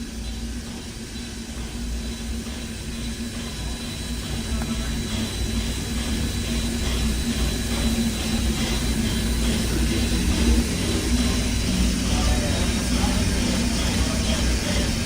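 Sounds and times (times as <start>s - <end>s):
low mechanical rumble and hum: 0.0s - 15.0s.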